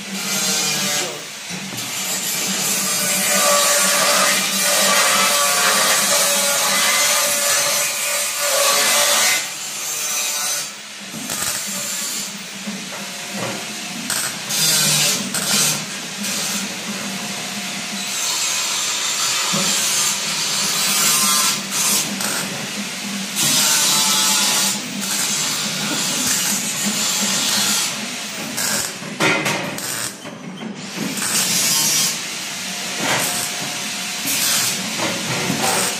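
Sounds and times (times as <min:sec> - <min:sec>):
welding arc crackling and hissing: 0:00.0 - 0:30.2, 0:30.9 - 0:35.9.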